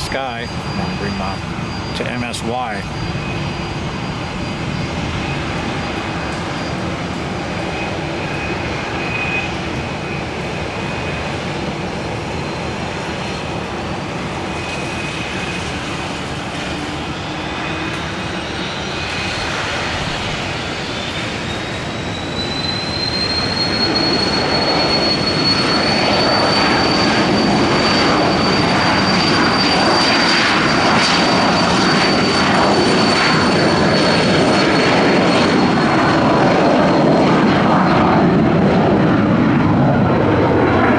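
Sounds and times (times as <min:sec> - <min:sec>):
aircraft turbine engines running: 0:00.0 - 0:40.9
high turbine whine: 0:00.0 - 0:40.9.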